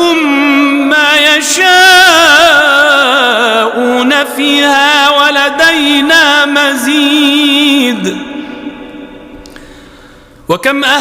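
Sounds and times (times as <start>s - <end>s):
man reciting melodically: 0.0s - 9.3s, 10.2s - 11.0s.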